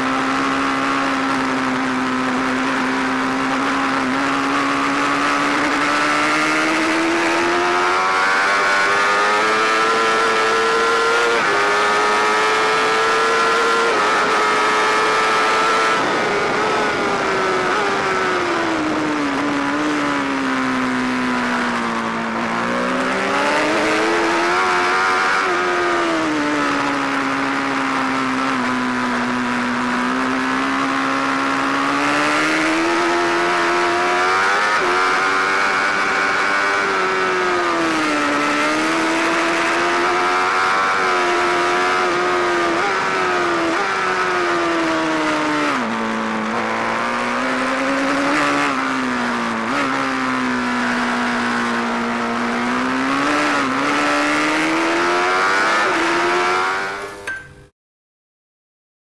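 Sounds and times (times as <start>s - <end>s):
motorcycle engine revving: 0.0s - 57.5s.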